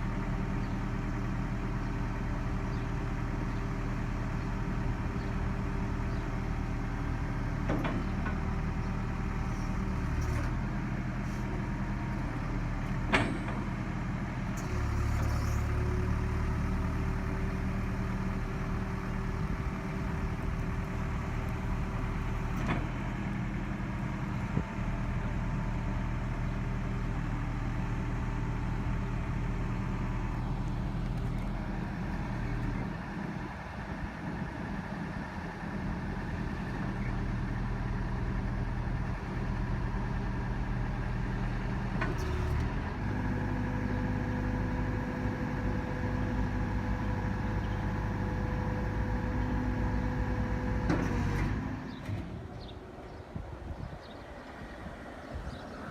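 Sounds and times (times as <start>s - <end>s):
construction machine engine running: 0.0s - 55.9s.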